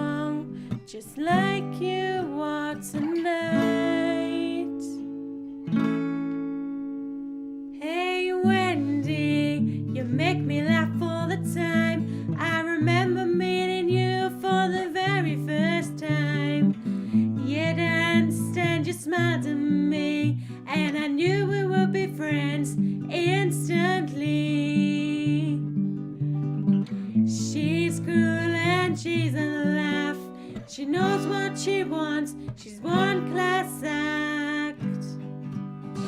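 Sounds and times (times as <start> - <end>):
acoustic guitar strumming: 0.0 - 7.7, 8.4 - 36.0.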